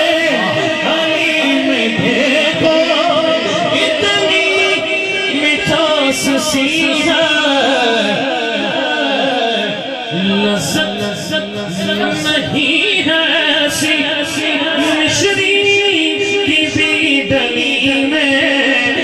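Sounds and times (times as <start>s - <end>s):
man singing over loudspeakers: 0.0s - 19.0s.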